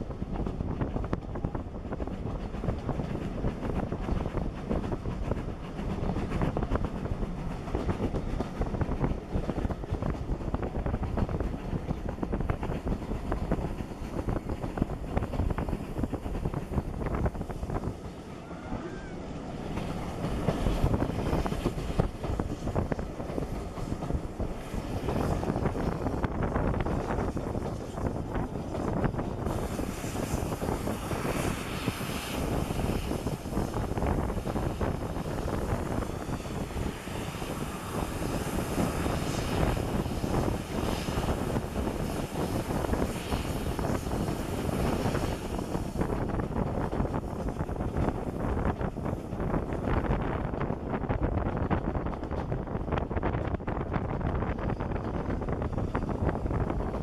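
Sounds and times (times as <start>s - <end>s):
train carriages rumbling on track: 0.0s - 57.0s
wind buffeting microphone: 0.0s - 57.0s.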